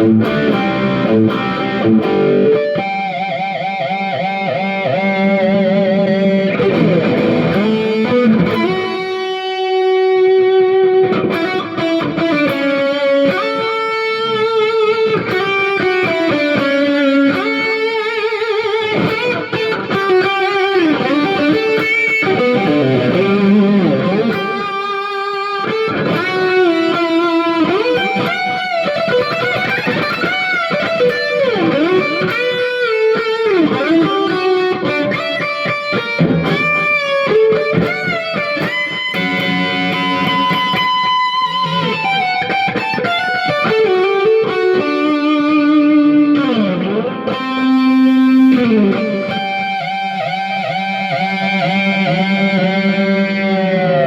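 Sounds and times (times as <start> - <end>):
electric guitar lead with bends: 0.0 - 54.0.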